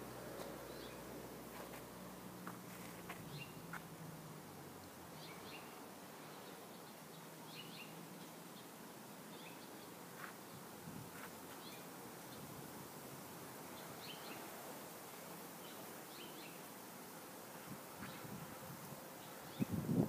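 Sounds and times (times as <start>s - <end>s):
small birds chirping: 0.0s - 4.0s, 4.7s - 12.5s, 13.2s - 16.9s, 17.6s - 20.0s
steady outdoor hiss: 0.0s - 20.0s.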